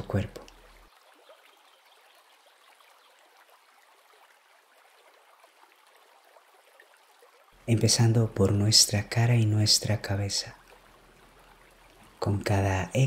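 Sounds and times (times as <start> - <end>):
faint trickle of water: 0.0 - 13.0.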